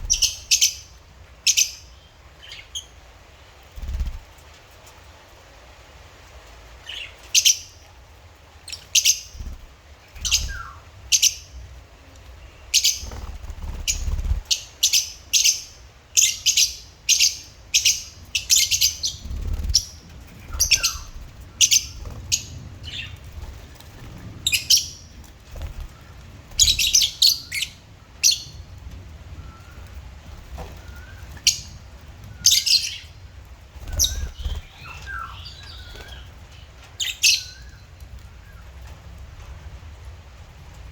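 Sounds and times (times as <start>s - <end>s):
lovebirds chirping: 0.0s - 3.1s, 8.6s - 39.0s.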